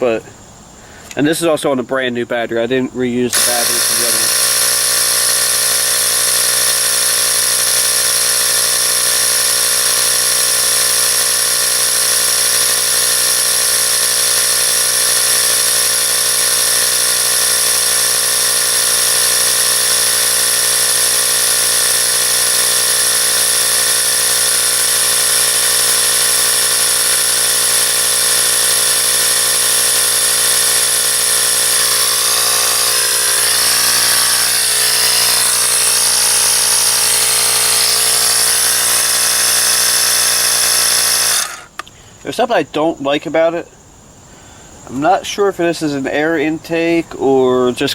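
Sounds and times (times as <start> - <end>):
tire inflator compressor running: 3.3 - 42.0.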